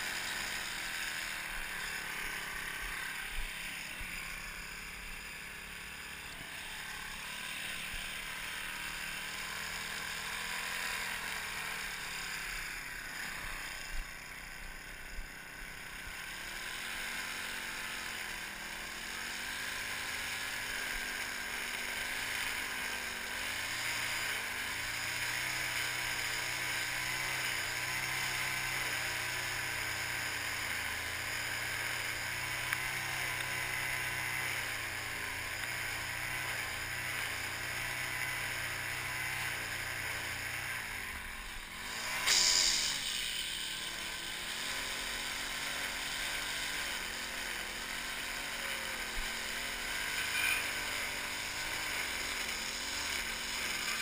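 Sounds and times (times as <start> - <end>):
string trimmer motor cutting grass: 0.0 - 54.0.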